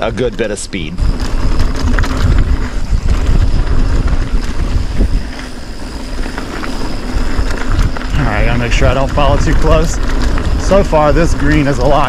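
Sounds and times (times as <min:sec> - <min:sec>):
bike tyres on rocky trail: 0:00.0 - 0:12.0
wind buffeting microphone: 0:00.0 - 0:12.0.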